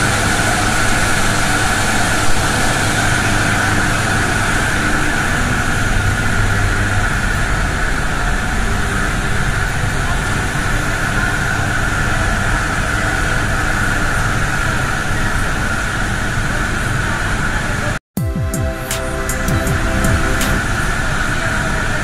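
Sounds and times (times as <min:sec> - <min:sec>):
turbine generator hum and whine: 0:00.0 - 0:22.0.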